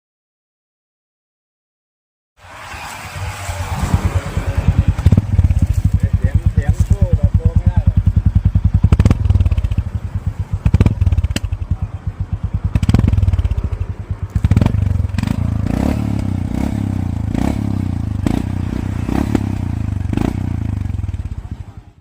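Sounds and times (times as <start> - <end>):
motorcycle engine thumping and revving: 3.6 - 22.0.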